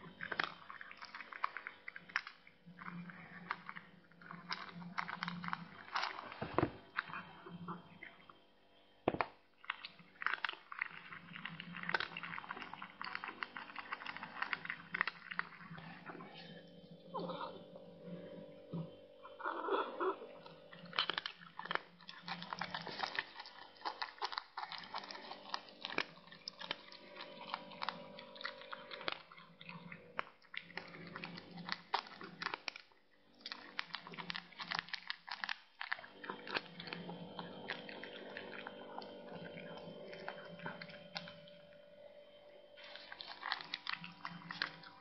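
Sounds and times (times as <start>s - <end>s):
cat chewing and crunching: 0.0s - 45.0s.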